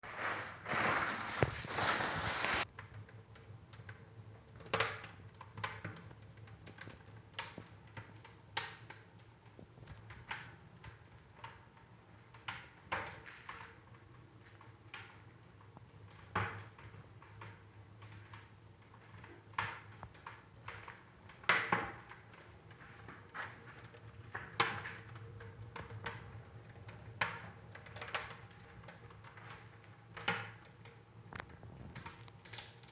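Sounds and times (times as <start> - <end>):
fire crackling and popping: 0.0 - 32.9.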